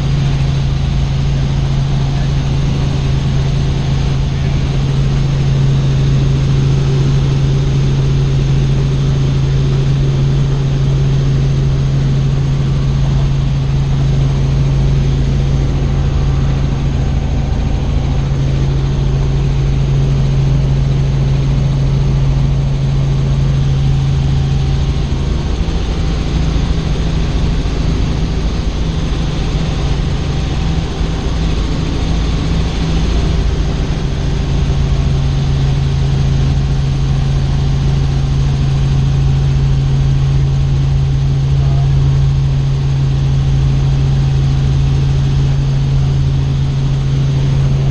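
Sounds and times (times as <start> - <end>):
helicopter rotor and engine drone: 0.0 - 47.9.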